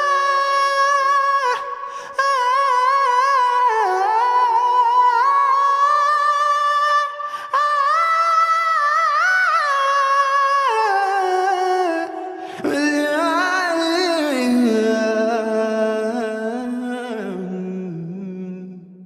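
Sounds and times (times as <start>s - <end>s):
person singing wordless melody: 0.0s - 19.0s.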